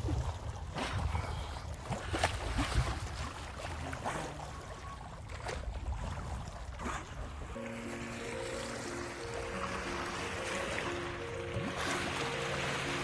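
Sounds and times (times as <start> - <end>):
water sloshing against boat: 0.0 - 13.0.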